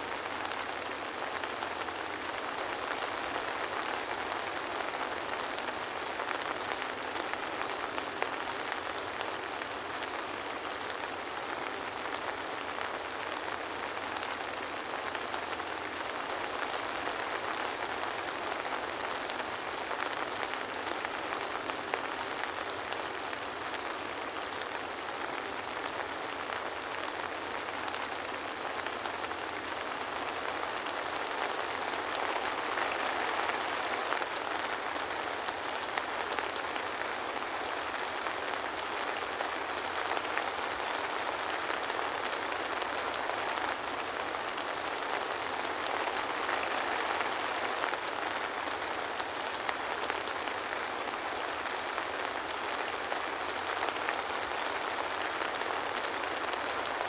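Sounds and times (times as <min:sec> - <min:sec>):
soft rain: 0:00.0 - 0:57.0.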